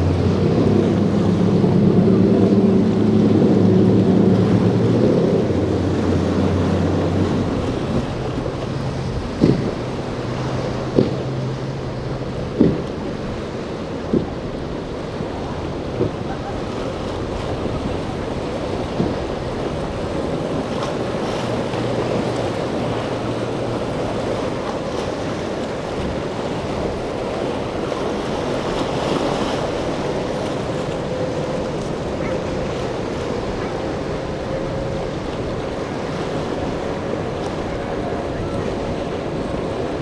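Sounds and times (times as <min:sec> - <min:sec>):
churning surf: 0:00.0 - 0:40.0
outboard motor running: 0:00.0 - 0:40.0
wind noise on microphone: 0:00.0 - 0:40.0.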